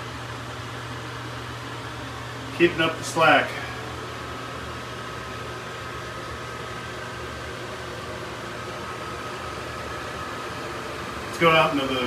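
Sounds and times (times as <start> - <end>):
ventilation machinery hum: 0.0 - 12.0.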